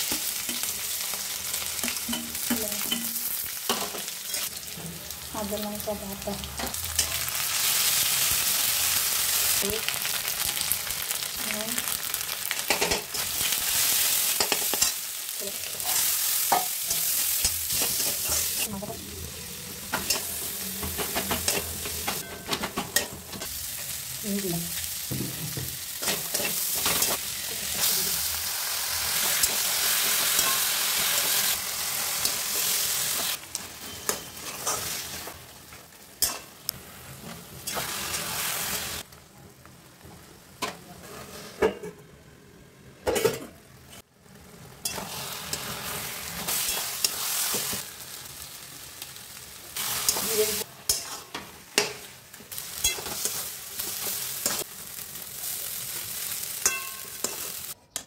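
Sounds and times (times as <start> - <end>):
food sizzling in a wok: 0.0 - 57.8.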